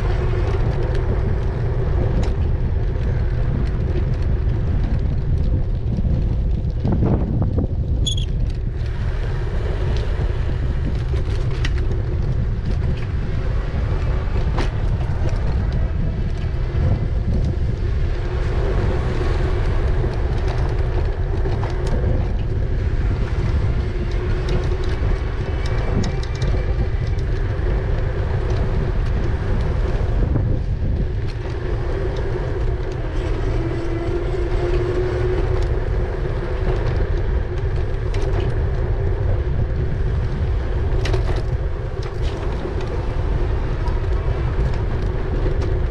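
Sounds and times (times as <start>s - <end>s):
electric bike hum: 0.0s - 45.9s
wind buffeting microphone: 0.0s - 45.9s.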